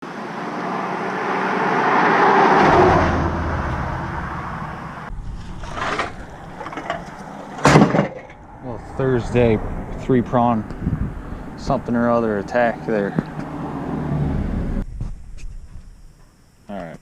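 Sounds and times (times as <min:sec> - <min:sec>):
road vehicle passing: 0:00.0 - 0:14.8.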